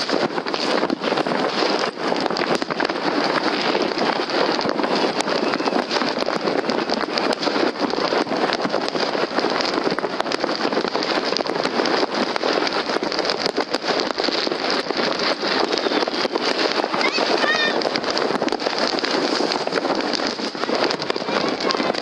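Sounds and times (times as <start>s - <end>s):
firework bangs: 0.0s - 22.0s
fireworks crackling: 0.0s - 22.0s.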